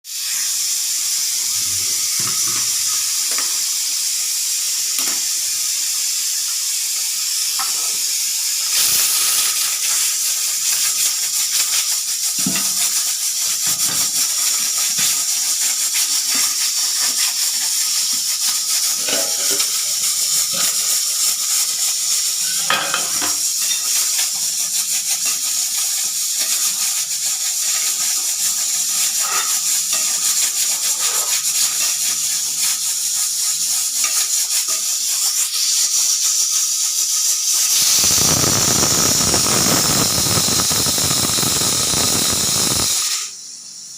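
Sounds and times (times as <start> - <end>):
pressure cooker whistle hissing: 0.0 - 43.9.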